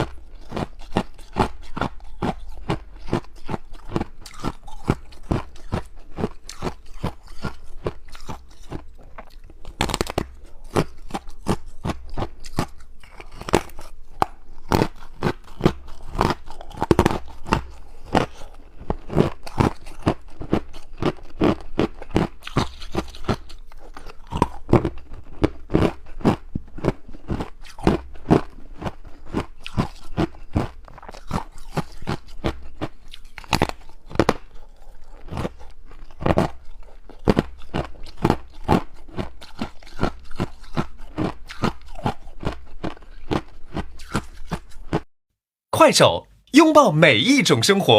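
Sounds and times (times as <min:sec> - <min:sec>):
ice being chewed: 0:00.0 - 0:45.1.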